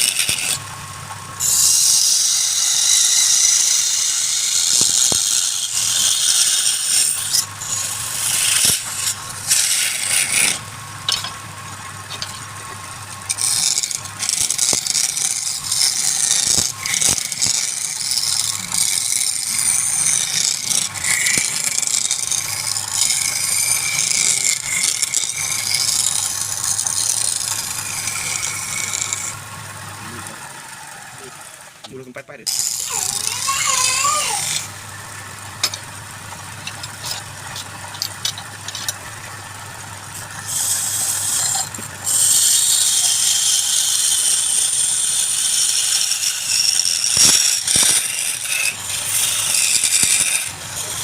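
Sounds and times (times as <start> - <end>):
turning tool cutting wood: 0.0 - 51.0
wood lathe motor hum: 0.0 - 51.0.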